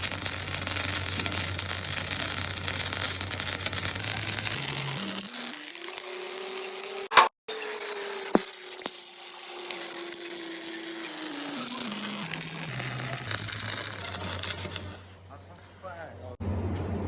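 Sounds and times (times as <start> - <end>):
small electric motor winding down: 0.0 - 15.0.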